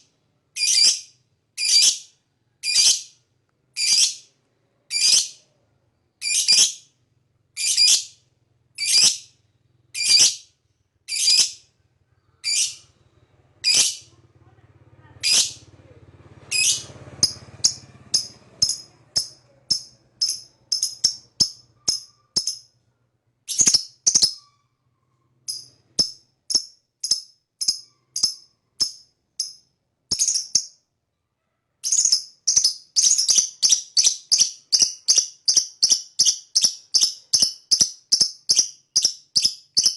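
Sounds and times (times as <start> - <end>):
faint low hum: 0.0 - 33.8
lovebird high-pitched chirps: 0.6 - 3.2, 3.8 - 4.3, 4.9 - 5.5, 6.2 - 7.0, 7.6 - 14.2, 15.2 - 15.7, 16.5 - 22.8, 23.5 - 30.9, 31.8 - 39.9.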